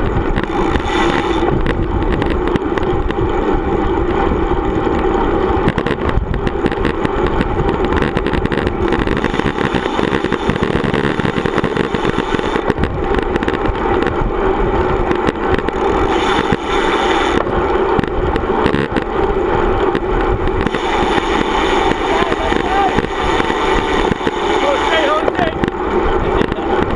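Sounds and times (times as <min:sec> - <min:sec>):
tyre and road rumble: 0:00.0 - 0:26.9
wind buffeting microphone: 0:00.0 - 0:26.9.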